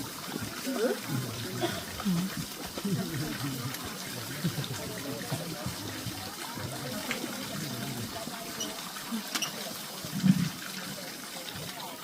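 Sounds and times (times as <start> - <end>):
indistinct chatter of people: 0.0 - 12.0
running water rushing: 0.0 - 12.0.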